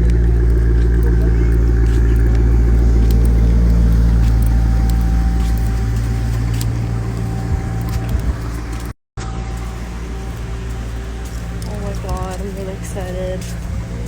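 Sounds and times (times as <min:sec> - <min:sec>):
car engine: 0:00.0 - 0:14.0
road rumble: 0:00.0 - 0:14.0.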